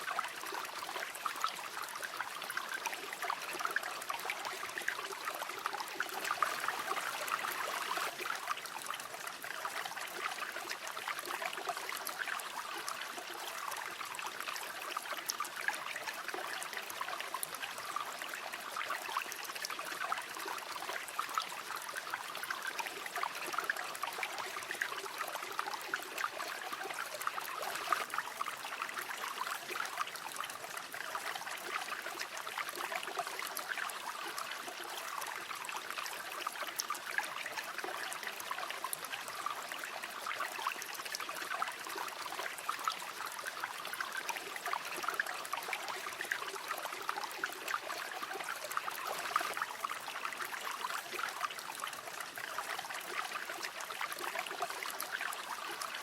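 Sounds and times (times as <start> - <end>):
river water over stones: 0.0 - 56.0.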